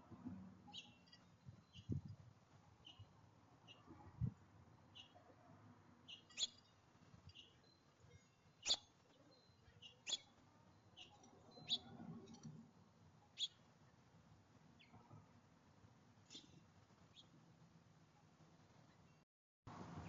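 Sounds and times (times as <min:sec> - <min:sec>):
songbirds chirping: 0:00.6 - 0:19.2.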